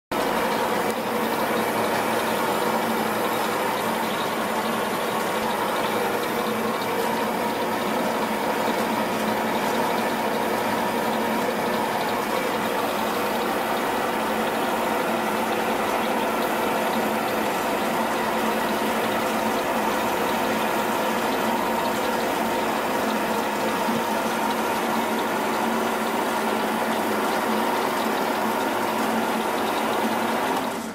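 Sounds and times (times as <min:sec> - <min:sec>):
band saw running: 0:00.1 - 0:30.9.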